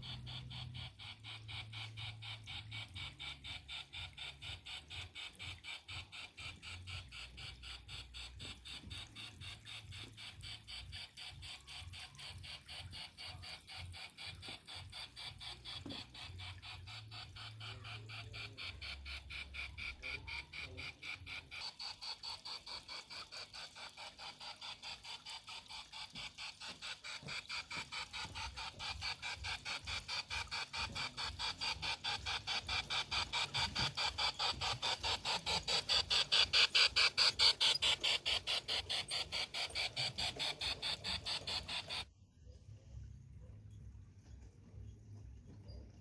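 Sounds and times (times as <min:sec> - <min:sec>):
model train clicking on track: 0:00.0 - 0:42.1.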